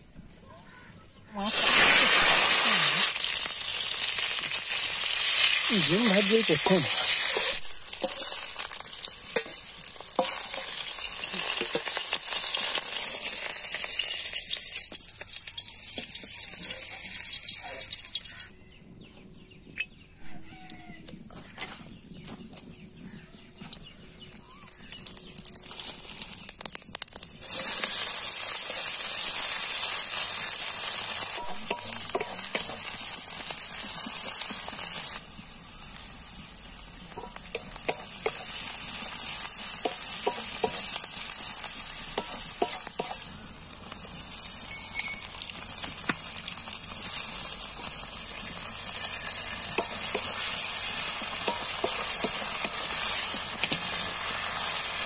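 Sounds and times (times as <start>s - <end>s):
onions frying: 0.7s - 18.5s, 22.5s - 55.0s
oil sizzling in a pan: 1.4s - 18.5s, 24.4s - 55.0s.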